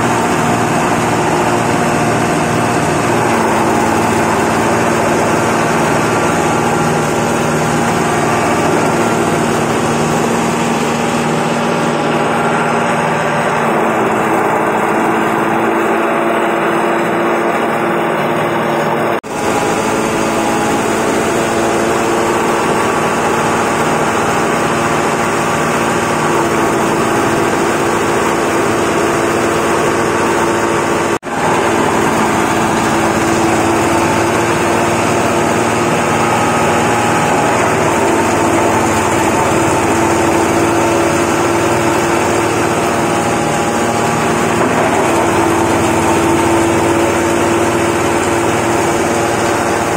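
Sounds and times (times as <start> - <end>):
grinding mill humming: 0.0 - 49.9.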